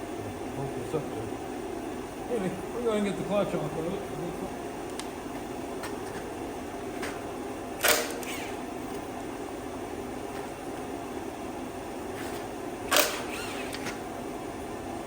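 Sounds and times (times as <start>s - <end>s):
shop heater humming: 0.0s - 15.0s.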